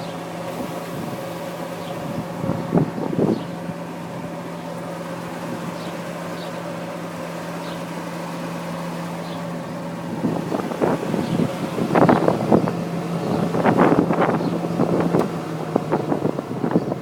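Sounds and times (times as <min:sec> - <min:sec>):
shoe repair machine humming: 0:00.0 - 0:17.0.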